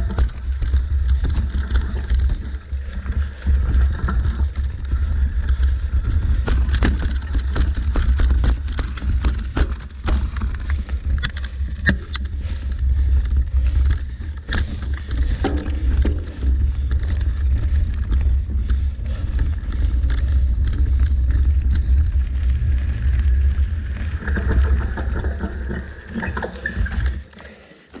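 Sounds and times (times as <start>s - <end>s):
wind rumble on microphone: 0.0s - 27.2s
bike knocking and rattling: 0.0s - 28.0s
bike tyres on dirt: 0.0s - 28.0s.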